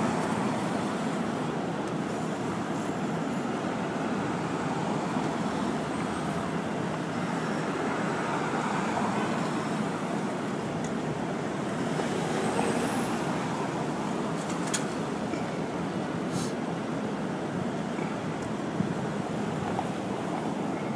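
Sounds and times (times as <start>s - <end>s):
city street traffic: 0.0s - 20.9s.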